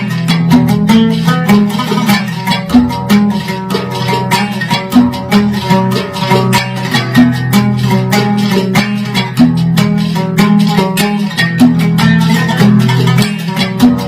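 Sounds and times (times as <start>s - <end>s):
plucked string instrument: 0.0s - 14.0s.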